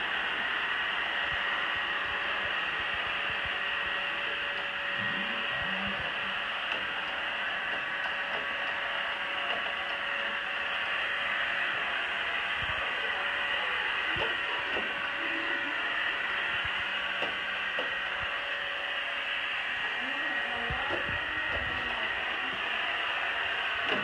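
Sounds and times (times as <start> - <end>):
robot vacuum cleaner hissing: 0.0 - 24.0.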